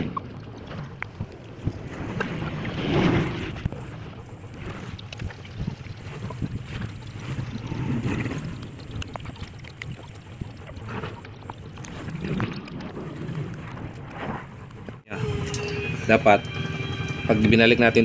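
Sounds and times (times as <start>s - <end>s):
wind rumble on microphone: 0.0s - 15.1s.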